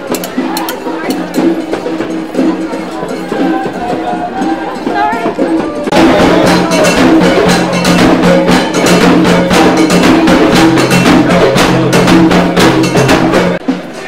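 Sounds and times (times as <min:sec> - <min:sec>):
loud music with fast drumbeats: 0:00.0 - 0:14.0.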